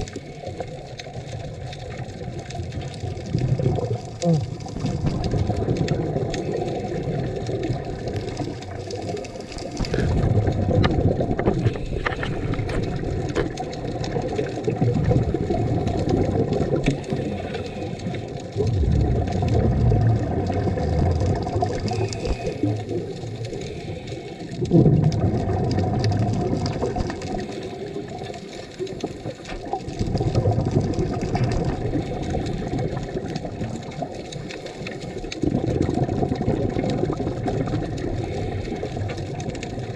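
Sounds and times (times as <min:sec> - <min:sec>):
underwater exhaled bubbles: 0:00.0 - 0:39.9
water hiss: 0:03.7 - 0:14.4, 0:15.0 - 0:36.0, 0:36.7 - 0:39.9.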